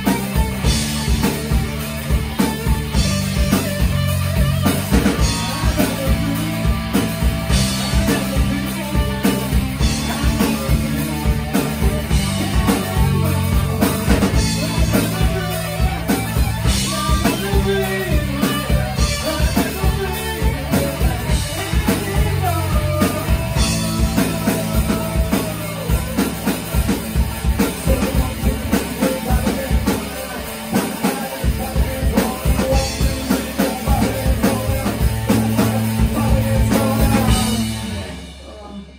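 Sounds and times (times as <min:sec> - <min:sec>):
rock band playing: 0:00.0 - 0:38.9
man singing into a microphone: 0:05.2 - 0:07.1, 0:07.7 - 0:26.4, 0:27.6 - 0:38.9.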